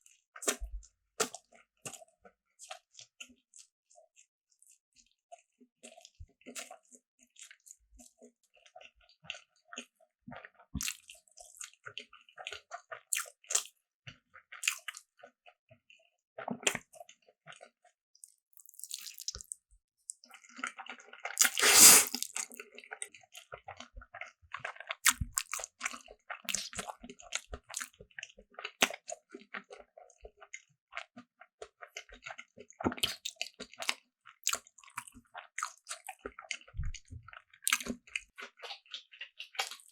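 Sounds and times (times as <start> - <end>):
close-miked crunchy chewing: 0.4 - 3.7, 4.6 - 15.3, 20.2 - 39.9.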